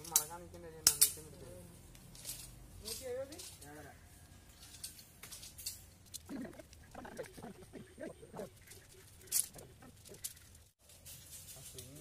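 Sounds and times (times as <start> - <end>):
wire mesh clicking and rattling: 0.0 - 3.8, 4.5 - 7.4, 8.5 - 12.0.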